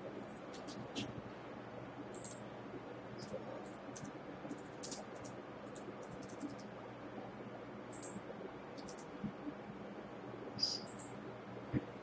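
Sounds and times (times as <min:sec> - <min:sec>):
faint steady hum and hiss: 0:00.0 - 0:12.0.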